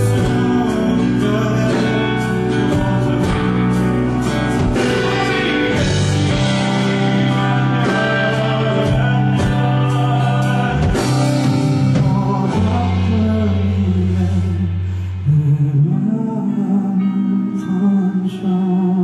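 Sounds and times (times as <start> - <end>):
bass line: 0.0 - 18.1
electric guitar: 0.0 - 19.0
piano: 0.0 - 19.0.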